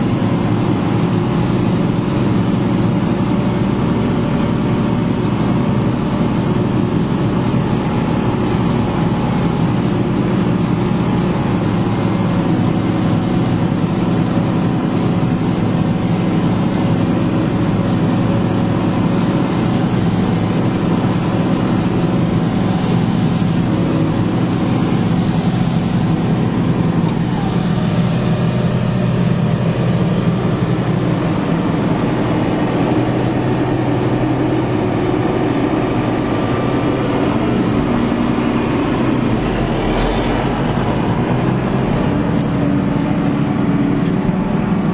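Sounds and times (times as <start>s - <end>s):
diesel machinery engine drone: 0.0s - 44.9s.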